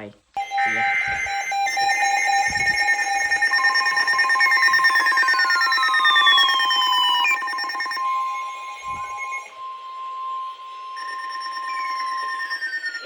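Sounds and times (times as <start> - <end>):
falling siren-like sweeps: 0.4 - 13.0
fast pulsing alarm beeps: 0.4 - 13.0
steady warning alarm tone: 0.4 - 13.0.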